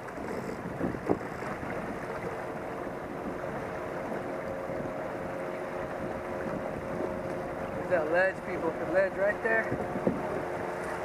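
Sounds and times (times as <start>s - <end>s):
faint steady drone: 0.0s - 11.0s
small waves lapping: 0.0s - 11.0s
wind on microphone: 0.0s - 11.0s.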